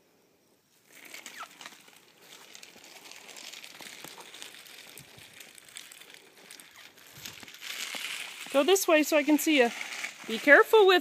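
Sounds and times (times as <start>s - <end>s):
stroller wheels crackling and clicking: 0.8s - 11.0s.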